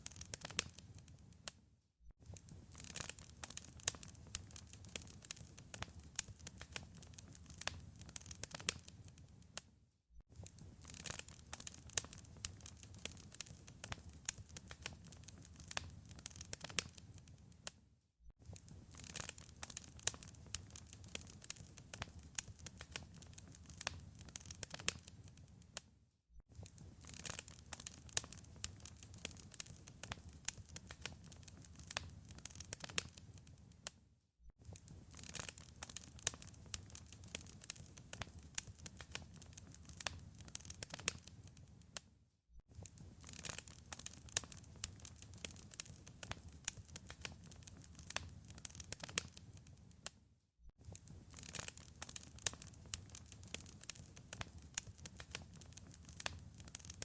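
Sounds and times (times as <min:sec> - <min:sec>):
wood fire crackling: 0:00.0 - 0:01.4, 0:02.2 - 0:09.6, 0:10.4 - 0:17.8, 0:18.4 - 0:25.8, 0:26.5 - 0:33.9, 0:34.6 - 0:42.0, 0:42.7 - 0:50.1, 0:50.8 - 0:57.0.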